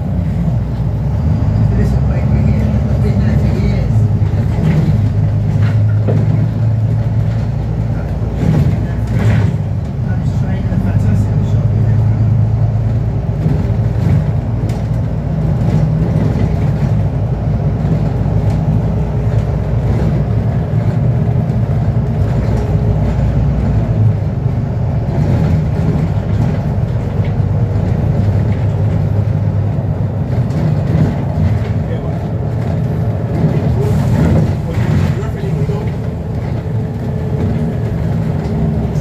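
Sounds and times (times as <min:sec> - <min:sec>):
bus engine drone: 0:00.0 - 0:39.0
road noise: 0:00.0 - 0:39.0.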